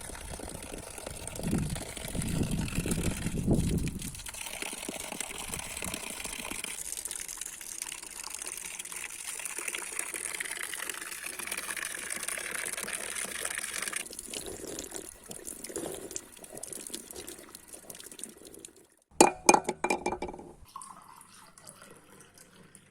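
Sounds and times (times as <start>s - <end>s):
water pouring: 0.0s - 22.9s
water splashing and trickling: 0.0s - 22.9s.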